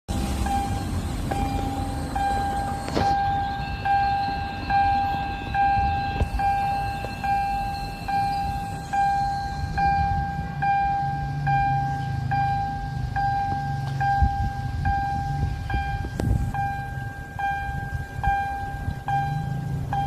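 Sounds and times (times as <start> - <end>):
level crossing warning alarm: 0.1 - 20.0.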